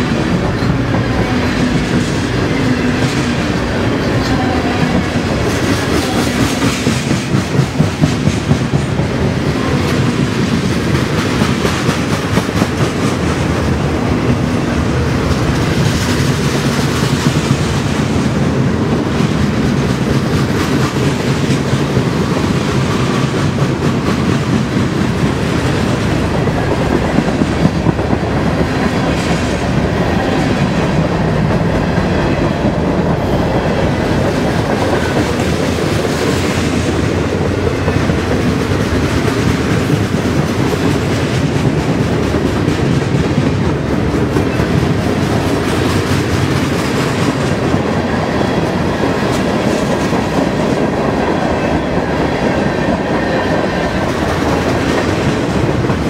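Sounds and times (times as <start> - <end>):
train wheels running over rails: 0.0 - 56.0.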